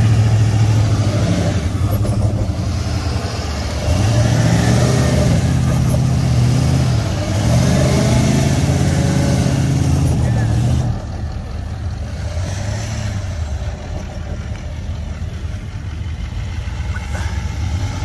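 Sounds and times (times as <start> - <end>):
diesel engine revving hard: 0.0 - 14.3, 16.0 - 18.0.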